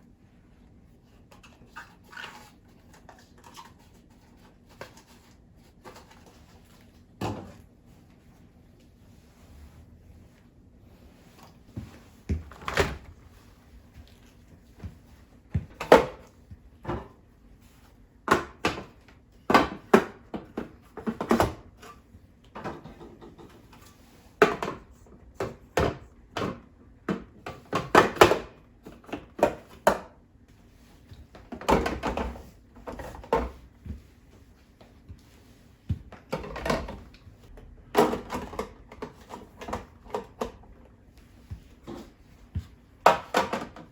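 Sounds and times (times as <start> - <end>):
items handled in a refrigerator: 0.0 - 43.9.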